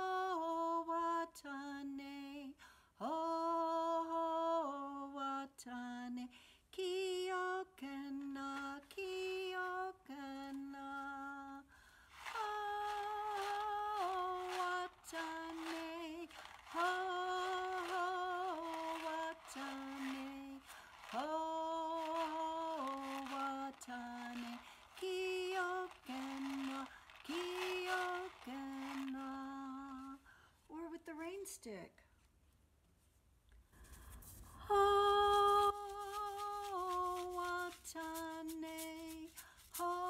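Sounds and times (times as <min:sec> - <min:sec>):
woman singing a lullaby: 0:00.0 - 0:11.7, 0:12.3 - 0:30.2, 0:34.7 - 0:40.0.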